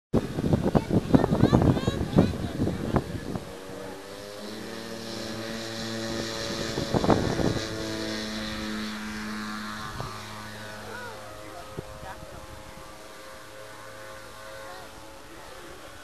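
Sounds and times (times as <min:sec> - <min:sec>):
model airplane engines running: 0:00.2 - 0:16.0.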